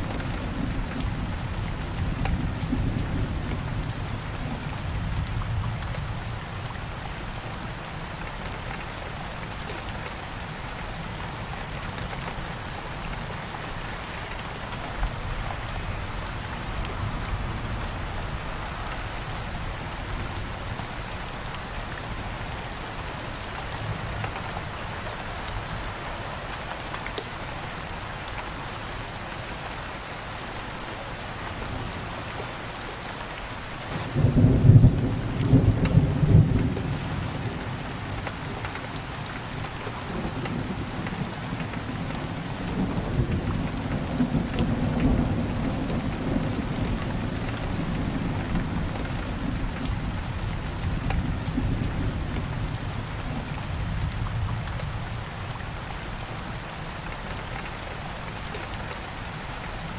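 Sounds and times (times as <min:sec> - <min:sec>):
heavy rain on window glass: 0:00.0 - 0:59.9.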